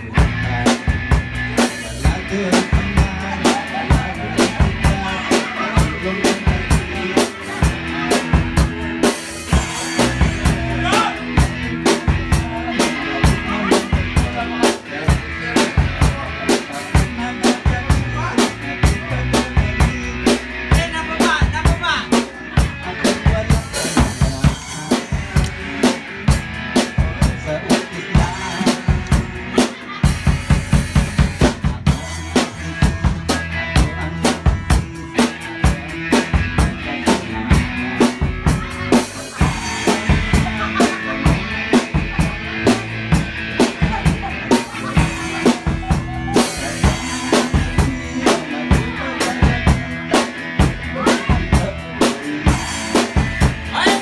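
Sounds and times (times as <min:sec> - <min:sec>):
drum kit playing: 0:00.0 - 0:54.0
strummed acoustic guitar: 0:00.0 - 0:54.0.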